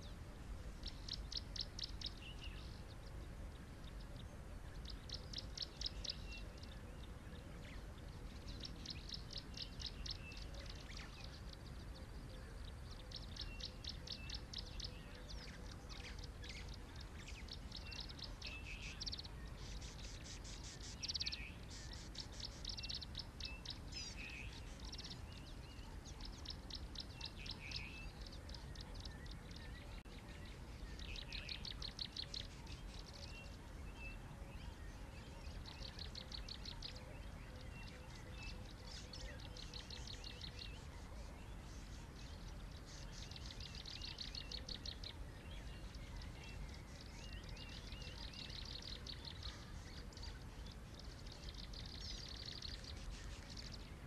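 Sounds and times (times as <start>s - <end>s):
bird chirps: 0.0s - 54.0s
low background noise: 0.0s - 54.0s
small birds trilling: 0.0s - 54.0s.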